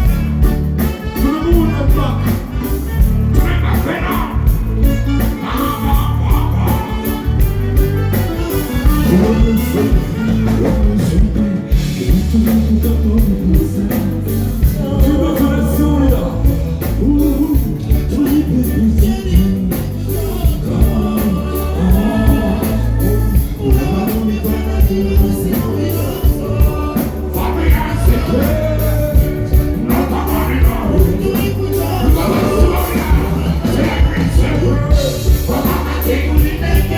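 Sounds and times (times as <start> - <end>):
live music with heavy bass: 0.0 - 36.9
person singing: 0.8 - 36.9.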